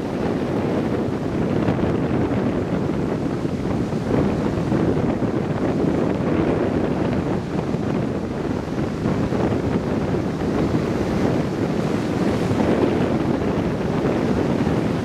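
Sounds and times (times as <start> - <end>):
storm surf breaking: 0.0 - 15.0
wind buffeting microphone: 0.0 - 15.0.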